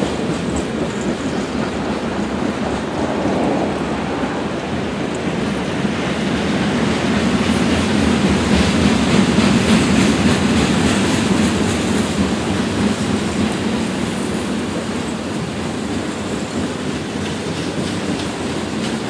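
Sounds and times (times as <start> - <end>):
train wheels rumbling on rails: 0.0 - 19.0
wheels clicking over rail joints: 0.0 - 19.0.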